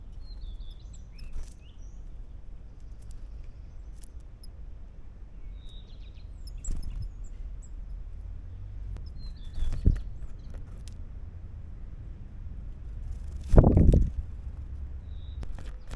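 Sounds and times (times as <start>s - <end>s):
small birds chirping: 0.0s - 11.3s, 12.8s - 15.9s
wind rumble on microphone: 0.0s - 15.9s.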